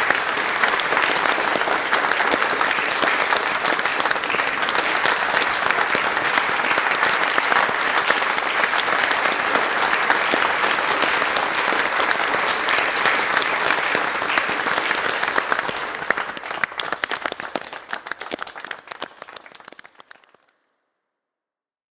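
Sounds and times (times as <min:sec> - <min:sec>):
audience applause: 0:00.0 - 0:20.6.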